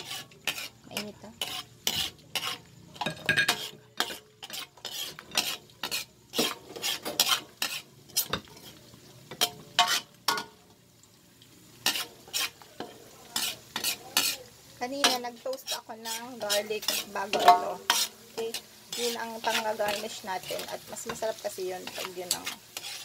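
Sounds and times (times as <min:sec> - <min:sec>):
utensil scraping a pan: 0:00.0 - 0:10.5, 0:11.8 - 0:23.0
garlic sizzling in oil: 0:00.0 - 0:23.0.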